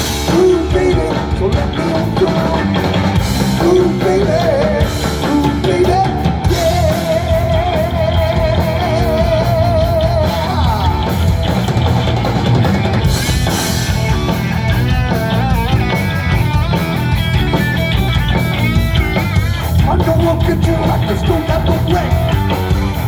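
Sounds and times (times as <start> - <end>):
drum kit: 0.0 - 23.0
electric guitar: 0.0 - 23.0
loud rock music: 0.0 - 23.0.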